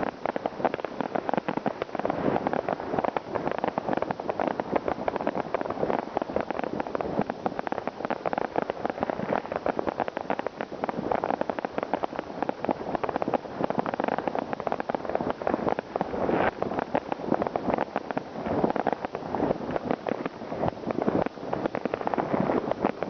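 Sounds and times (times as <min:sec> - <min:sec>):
fireworks and firecrackers crackling: 0:00.0 - 0:23.0.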